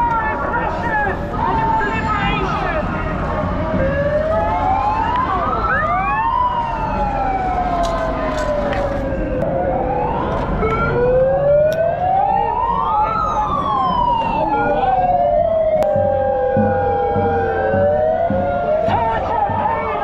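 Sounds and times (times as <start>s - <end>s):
siren wailing: 0.0s - 20.0s
second siren gliding: 1.3s - 3.0s, 3.7s - 20.0s.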